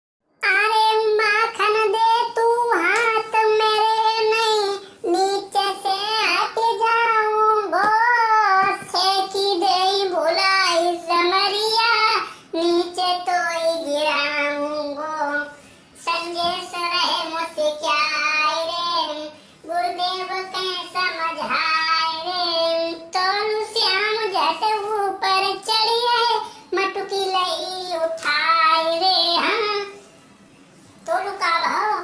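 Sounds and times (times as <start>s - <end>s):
high voice singing unaccompanied: 0.4s - 30.1s, 31.0s - 32.0s.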